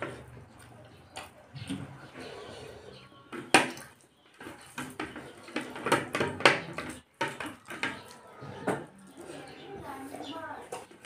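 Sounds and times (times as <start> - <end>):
wet chewing and smacking: 0.0 - 5.8, 6.6 - 10.1.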